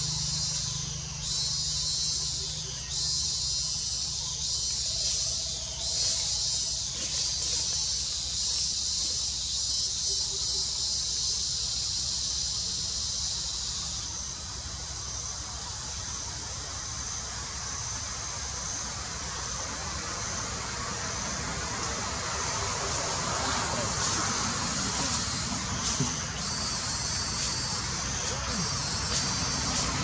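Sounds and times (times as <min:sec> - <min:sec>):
faint high insect trill: 0:00.0 - 0:30.0
insects buzzing: 0:00.0 - 0:30.0.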